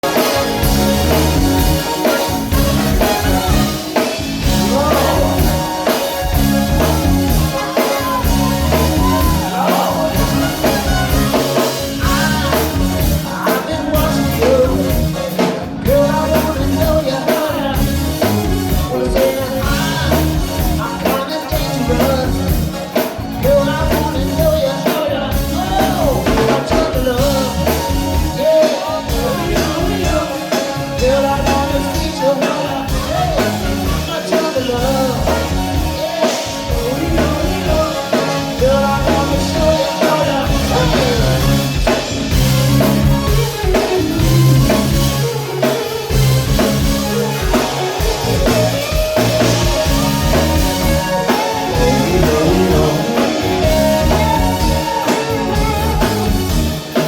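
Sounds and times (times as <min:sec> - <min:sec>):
person singing: 0:00.0 - 0:42.2, 0:46.8 - 0:57.0
live funk band playing: 0:00.0 - 0:57.0.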